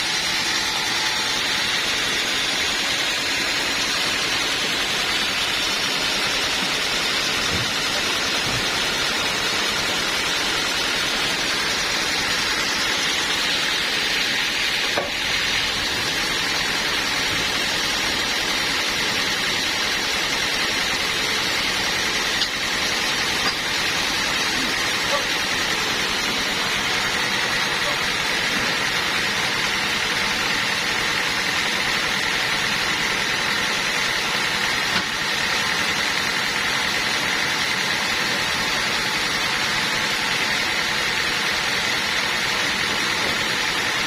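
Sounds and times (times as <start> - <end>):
sawmill machinery running: 0.0 - 44.0.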